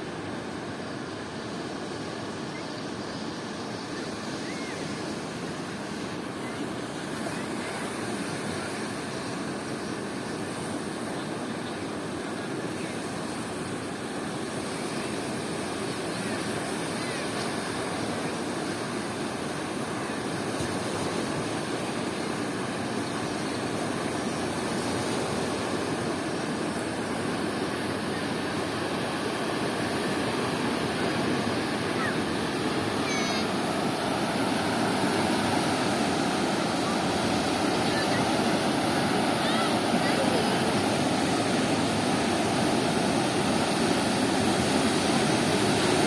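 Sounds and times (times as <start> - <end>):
big waves rushing on a river: 0.0 - 46.0.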